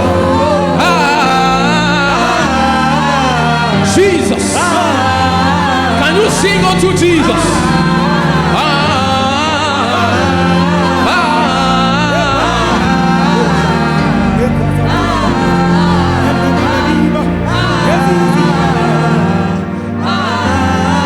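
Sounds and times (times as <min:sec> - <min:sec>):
held chords: 0:00.0 - 0:21.0
voices singing with vibrato: 0:00.0 - 0:21.0.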